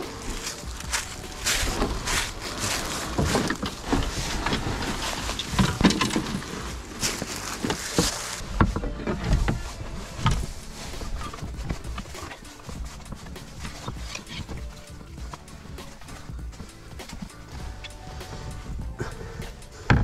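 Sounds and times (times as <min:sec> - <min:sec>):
boat dragged over dry leaves: 0:00.0 - 0:18.8
frame and oars clattering: 0:00.0 - 0:19.2.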